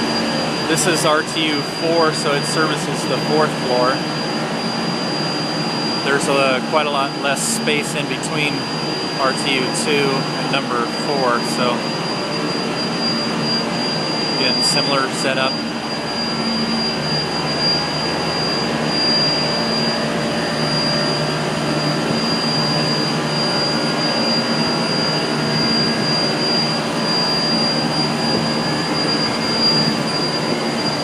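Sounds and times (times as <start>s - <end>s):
air conditioning fan noise: 0.0s - 31.0s
high-pitched whine: 0.0s - 31.0s.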